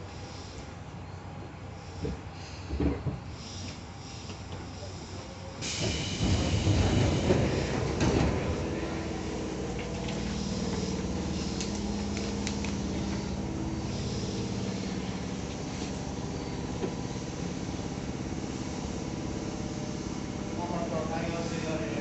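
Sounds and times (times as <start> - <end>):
train equipment and fans humming: 0.0 - 22.0.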